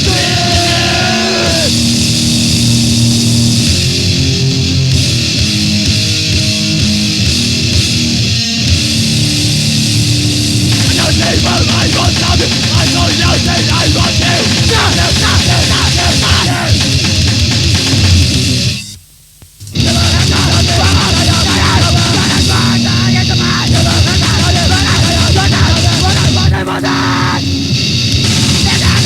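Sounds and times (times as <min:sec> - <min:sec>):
aggressive band playing: 0:00.0 - 0:19.0, 0:19.6 - 0:29.0.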